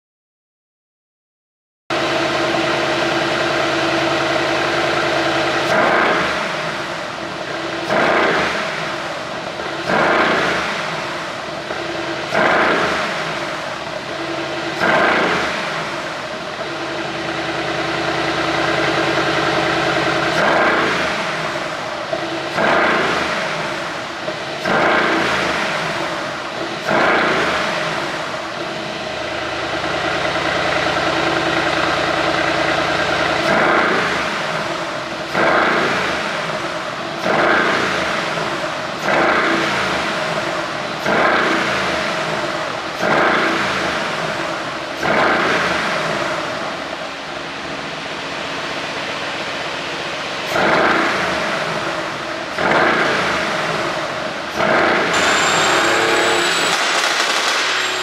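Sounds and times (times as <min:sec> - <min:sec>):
car engine revving: 0:02.0 - 0:44.3, 0:49.3 - 0:58.0.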